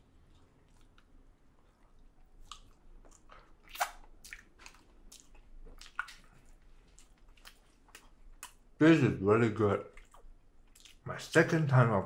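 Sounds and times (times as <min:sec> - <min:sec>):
person chewing food: 0:00.0 - 0:08.8, 0:09.9 - 0:11.1.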